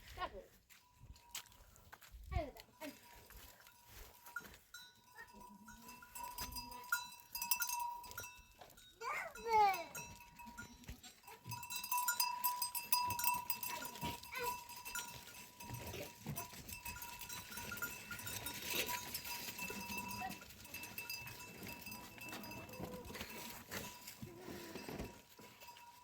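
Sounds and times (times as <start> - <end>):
goats shuffling in a pen: 0.0 - 26.0.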